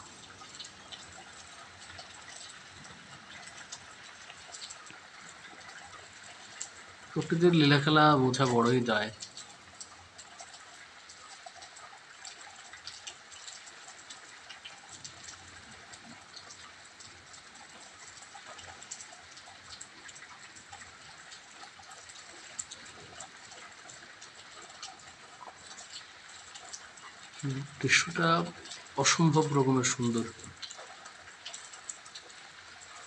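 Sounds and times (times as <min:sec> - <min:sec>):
raindrops tapping: 0:00.0 - 0:33.0
steady rain: 0:00.0 - 0:33.0.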